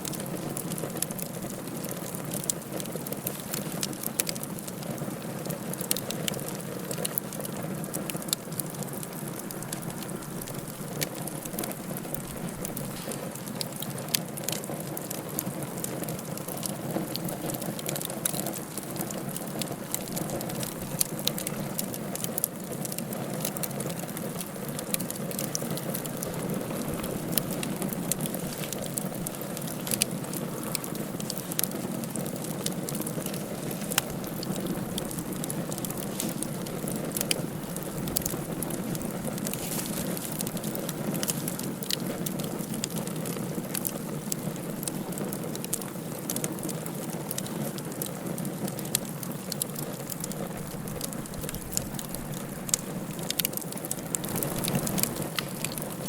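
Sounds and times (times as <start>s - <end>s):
fire crackling and popping: 0.0s - 56.0s
wood fire burning: 0.0s - 56.0s.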